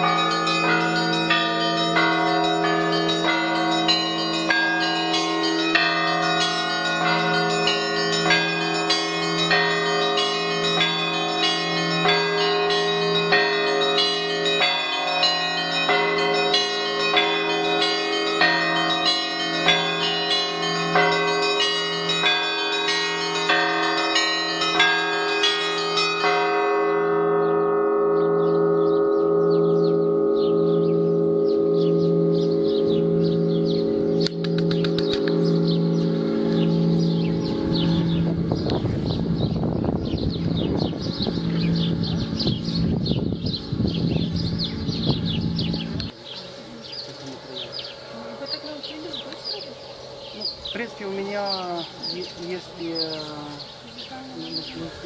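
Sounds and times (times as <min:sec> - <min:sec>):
deep large bell hum: 0:00.0 - 0:46.2
small church bells ringing: 0:00.0 - 0:55.0.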